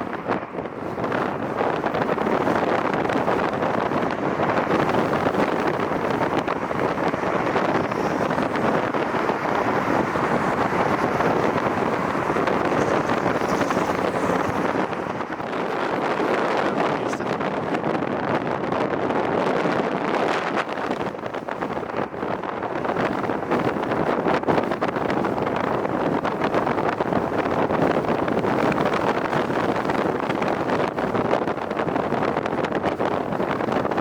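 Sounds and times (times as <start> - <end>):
gusty wind on microphone: 0.0 - 34.0.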